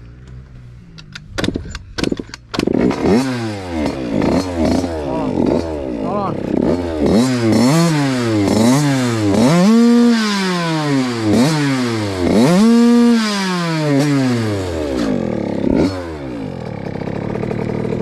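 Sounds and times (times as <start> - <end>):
two-stroke motorbike engine revving: 0.0 - 18.0.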